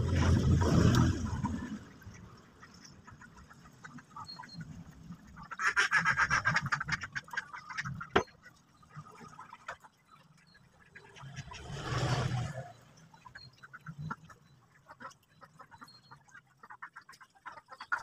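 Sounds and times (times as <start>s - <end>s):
ducks quacking: 0.1s - 10.0s, 10.7s - 18.0s.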